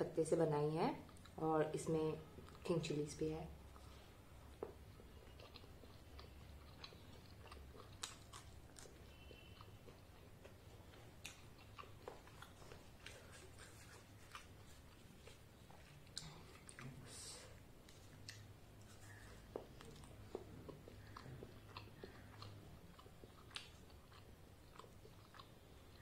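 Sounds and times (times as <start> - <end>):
chewing soft food: 1.0 - 1.5, 2.2 - 2.8, 3.5 - 26.0.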